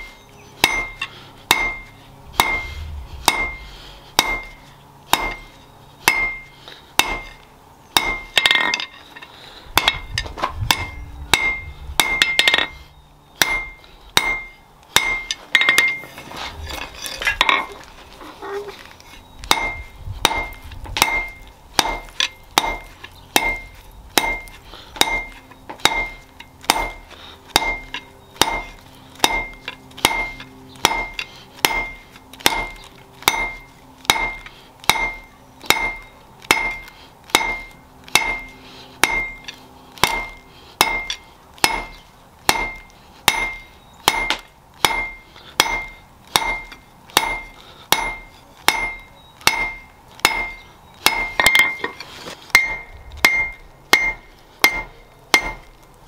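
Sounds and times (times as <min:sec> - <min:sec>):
hammer striking steel on anvil: 0:00.0 - 0:07.4, 0:08.0 - 0:09.0, 0:09.8 - 0:12.8, 0:13.4 - 0:17.8, 0:19.4 - 0:55.8.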